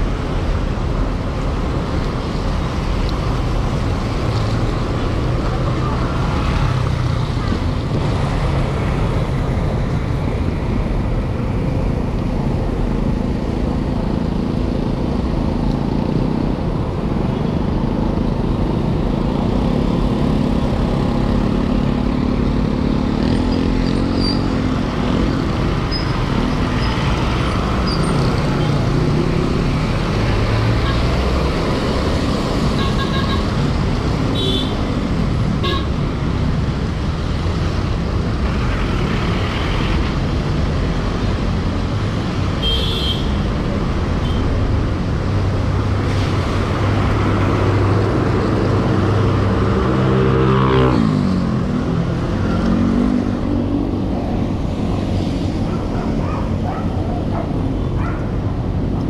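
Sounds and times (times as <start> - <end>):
road and traffic rumble: 0.0 - 59.0.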